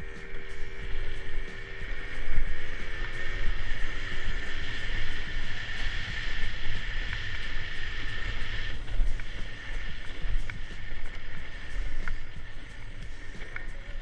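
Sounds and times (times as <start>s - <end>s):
dirt bike engine running: 0.0s - 14.0s
wind rumbling on microphone: 0.0s - 14.0s.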